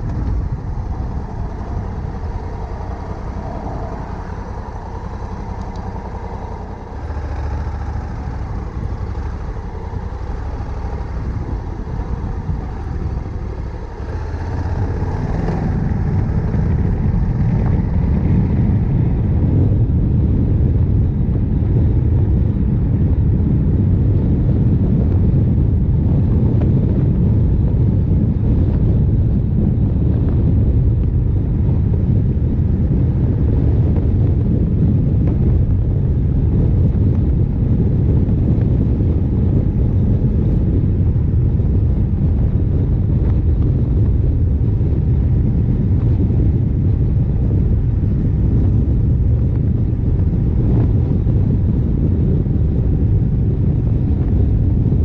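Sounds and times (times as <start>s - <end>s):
motorcycle engine cruising: 0.0s - 55.0s
wind roar on microphone: 0.0s - 55.0s.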